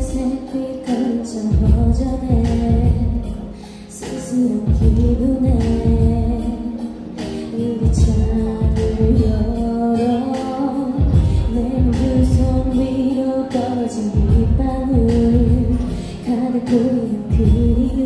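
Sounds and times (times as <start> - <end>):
woman singing into a microphone: 0.0 - 18.0.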